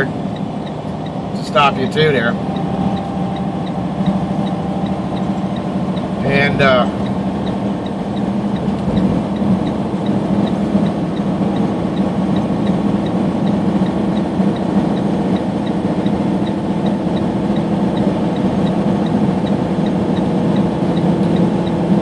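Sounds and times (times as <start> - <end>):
faint rapid ticking: 0.0 - 21.8
truck engine and road noise drone: 0.0 - 22.0.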